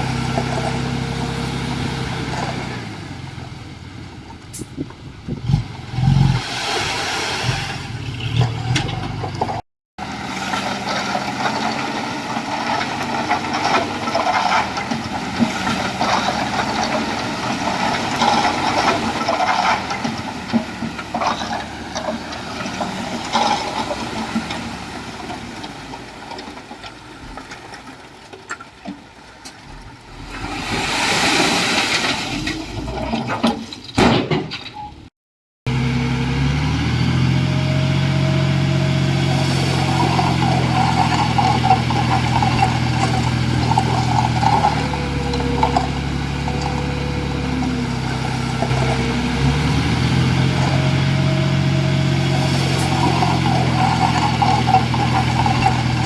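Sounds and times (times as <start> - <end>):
heavy machinery diesel engines: 0.0 - 5.6, 7.9 - 27.2, 35.7 - 56.0.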